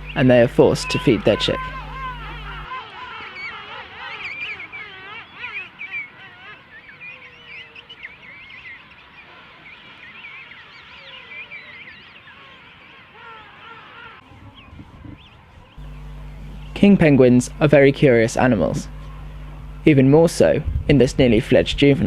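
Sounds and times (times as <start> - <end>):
penguins calling in chorus: 0.0 - 20.5.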